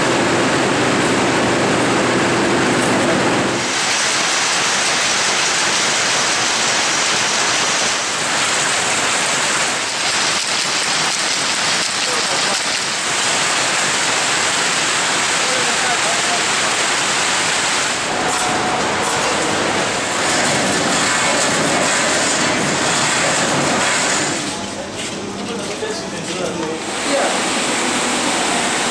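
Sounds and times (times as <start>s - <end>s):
power looms clattering: 0.0s - 28.9s.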